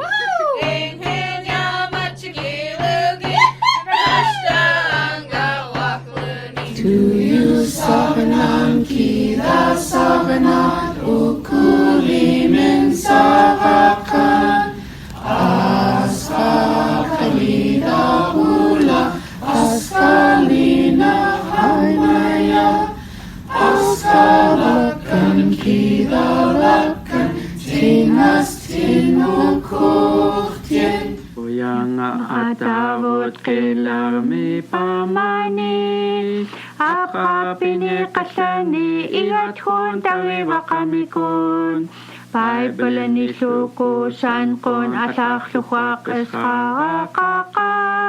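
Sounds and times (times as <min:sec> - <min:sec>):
choir singing unaccompanied: 0:00.6 - 0:48.0.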